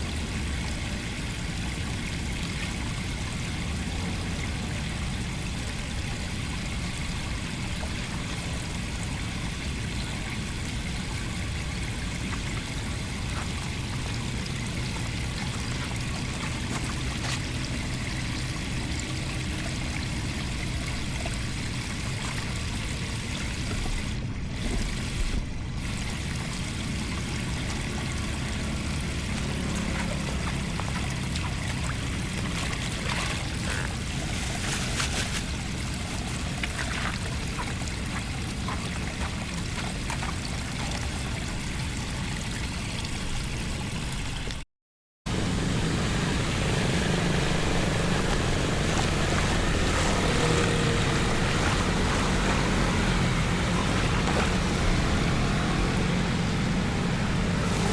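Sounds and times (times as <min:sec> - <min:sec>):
floodwater rushing: 0:00.0 - 0:44.5, 0:45.3 - 0:57.9.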